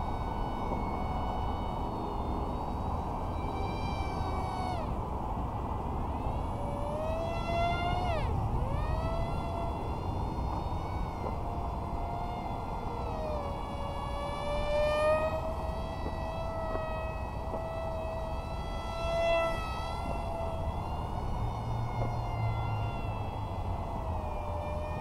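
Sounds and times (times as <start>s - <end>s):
model plane propeller whining: 0.0s - 25.0s.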